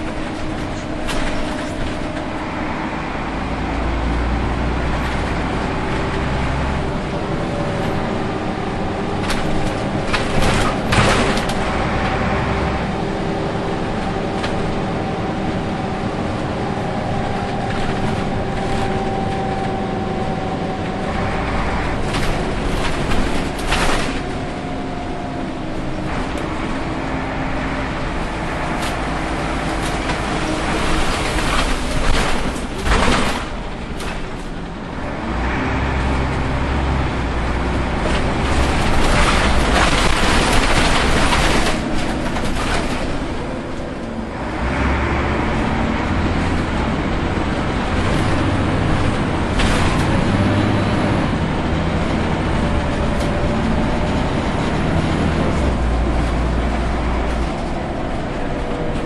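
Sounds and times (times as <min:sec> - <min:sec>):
bus body knocks and rattles: 0:00.0 - 0:02.7, 0:04.4 - 0:35.4, 0:37.2 - 0:44.4, 0:45.8 - 0:59.0
bus engine rumble: 0:00.0 - 0:59.0.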